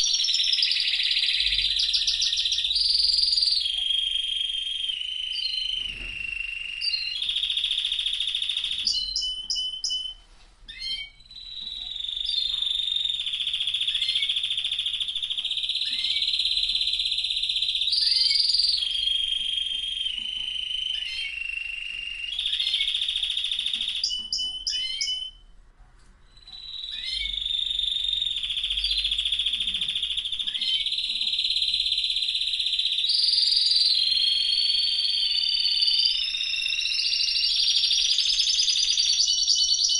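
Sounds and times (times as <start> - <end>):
canary singing: 0.0 - 25.5, 26.2 - 39.9.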